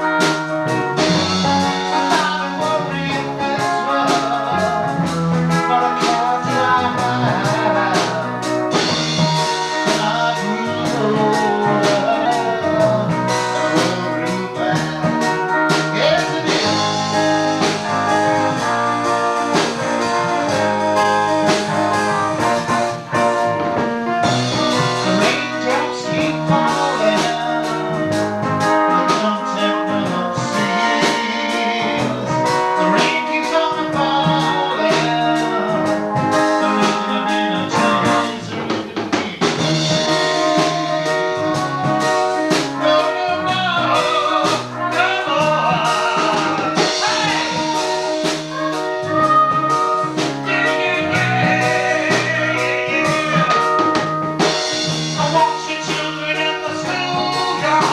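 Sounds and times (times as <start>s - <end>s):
band music: 0.0s - 57.9s
drum kit: 0.0s - 57.9s
person singing: 0.0s - 57.9s.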